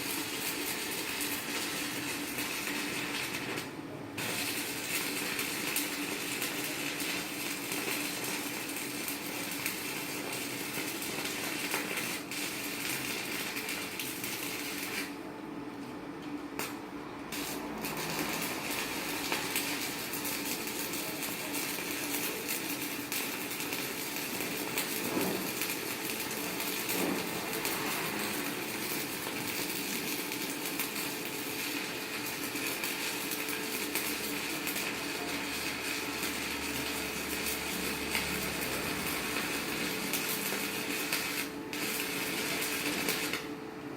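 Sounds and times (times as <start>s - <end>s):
welding arc crackling: 0.0s - 15.2s, 16.3s - 43.6s.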